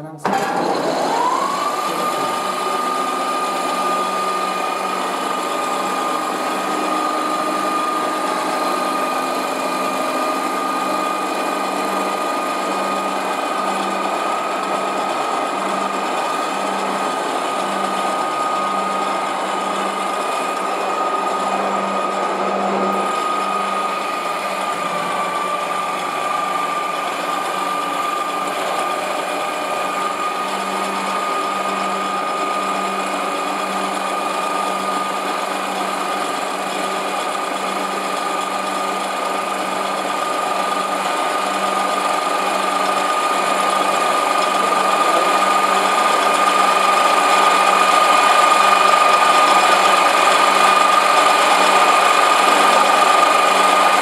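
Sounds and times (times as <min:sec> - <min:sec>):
lathe cutting wood with whine: 0:00.3 - 0:54.0.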